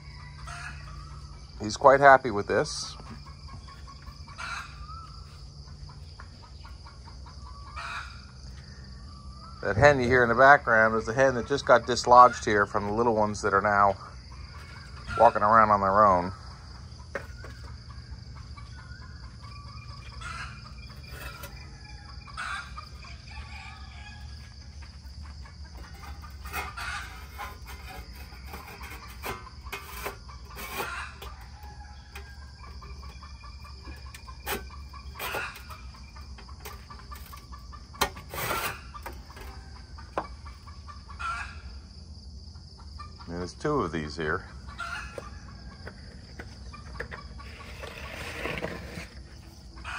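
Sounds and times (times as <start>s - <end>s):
hen clucking: 0.0s - 8.6s, 9.8s - 42.0s, 42.6s - 49.9s.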